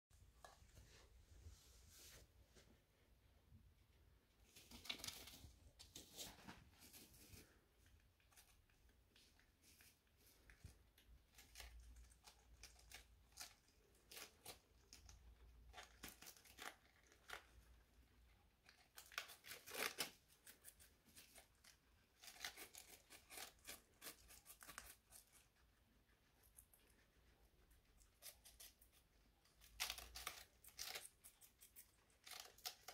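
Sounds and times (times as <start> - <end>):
guinea pigs crunching lettuce: 4.4 - 32.9.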